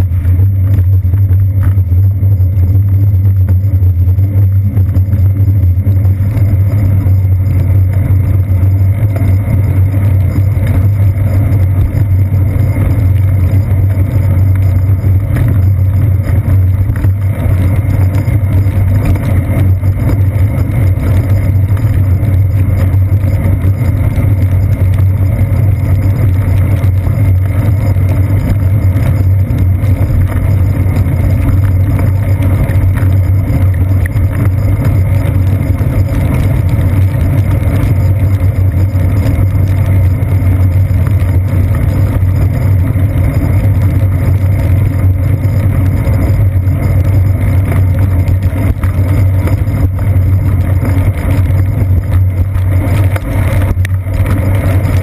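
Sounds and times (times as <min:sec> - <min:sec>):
bicycle rumbling on wet pavement: 0:00.0 - 0:55.0
wind noise on camera: 0:00.0 - 0:55.0.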